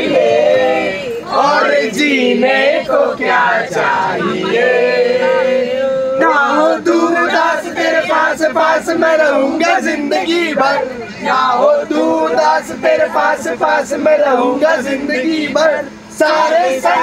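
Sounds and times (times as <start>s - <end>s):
people singing without instruments: 0.0s - 17.0s.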